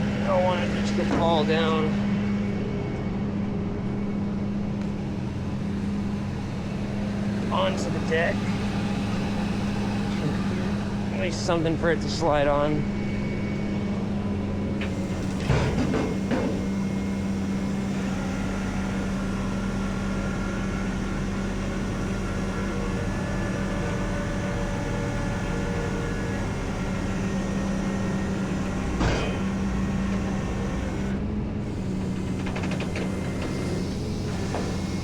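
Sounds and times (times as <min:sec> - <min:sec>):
tow truck hydraulics droning: 0:00.0 - 0:35.0.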